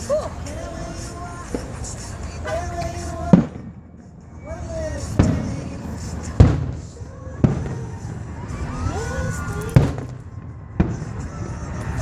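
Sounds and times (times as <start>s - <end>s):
fireworks booming: 0.0s - 12.0s.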